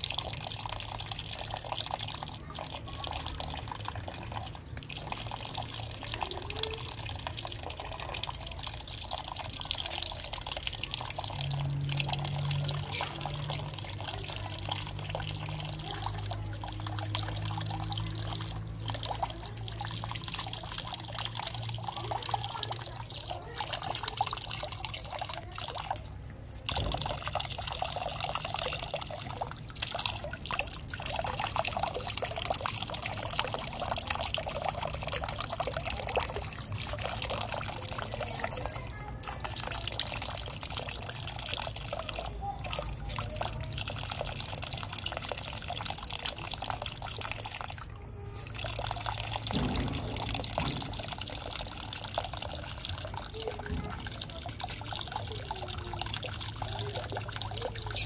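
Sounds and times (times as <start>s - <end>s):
water pouring and splashing: 0.0s - 58.0s.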